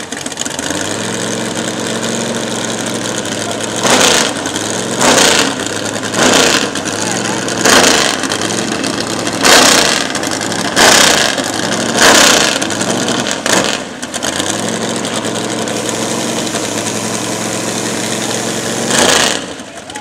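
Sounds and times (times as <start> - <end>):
car engine loud idle: 0.0 - 20.0
short loud engine blasts: 0.0 - 20.0.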